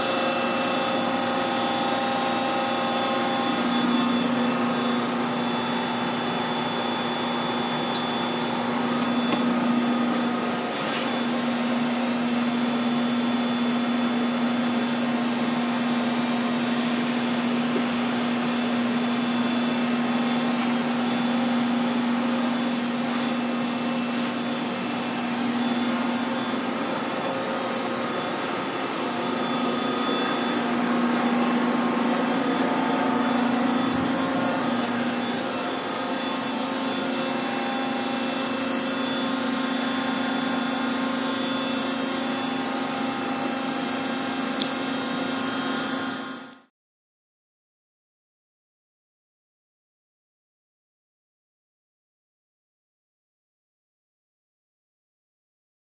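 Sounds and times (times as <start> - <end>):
industrial machinery whirring: 0.0 - 46.4.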